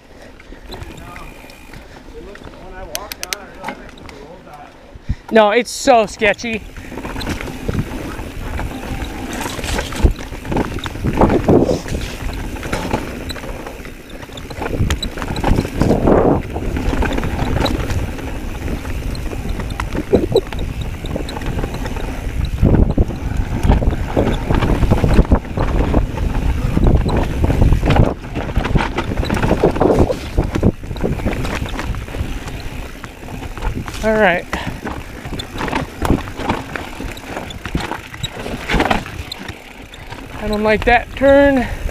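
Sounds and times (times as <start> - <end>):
bike tyres rumbling over dirt: 0.0 - 4.4, 5.9 - 41.9
bike rattling: 0.0 - 41.9
wind buffeting microphone: 6.4 - 41.9.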